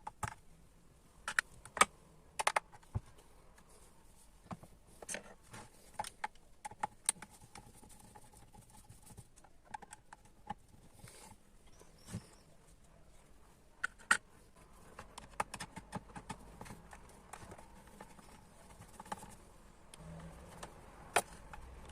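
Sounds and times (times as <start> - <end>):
small parts clicking and tapping: 0.0 - 0.5, 1.2 - 3.7, 4.4 - 12.4, 13.7 - 21.9.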